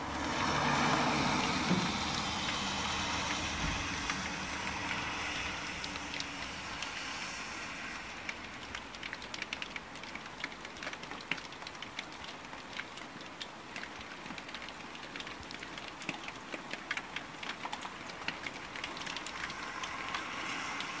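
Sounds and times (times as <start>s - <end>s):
raindrops ticking: 0.0s - 21.0s
steady rain: 0.0s - 21.0s.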